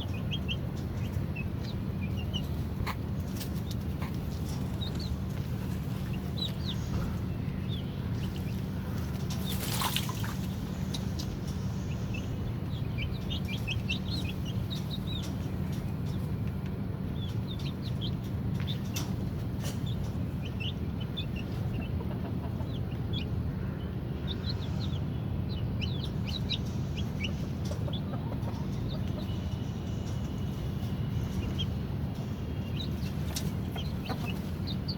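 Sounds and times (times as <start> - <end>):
birds chirping: 0.0 - 34.9
steady low hum: 0.0 - 34.9.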